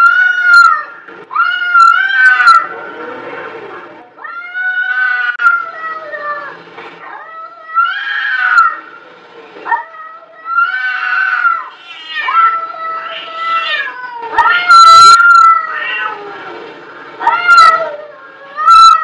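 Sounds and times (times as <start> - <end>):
cats yowling: 0.0 - 2.8, 4.2 - 8.9, 9.6 - 19.0.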